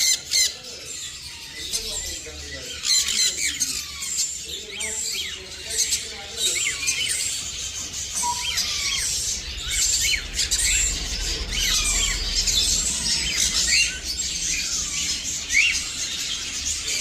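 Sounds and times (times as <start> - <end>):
parrots chirping and squawking: 0.0 - 17.0.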